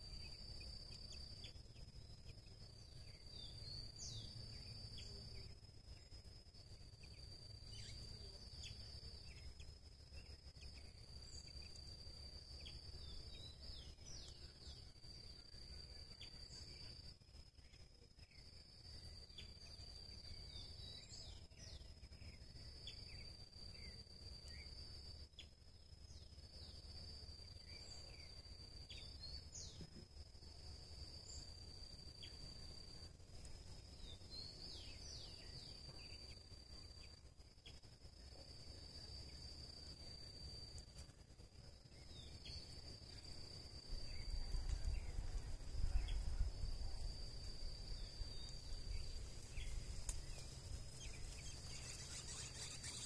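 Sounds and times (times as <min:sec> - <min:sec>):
insect high-pitched trill: 0:00.0 - 0:53.0.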